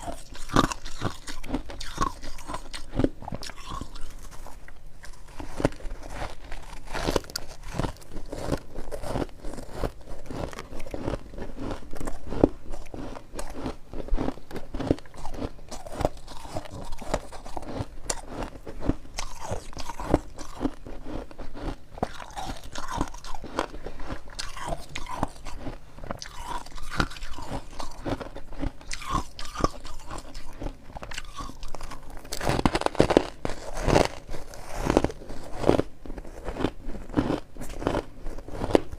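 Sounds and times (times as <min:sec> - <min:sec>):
frost being chewed: 0:00.0 - 0:38.9.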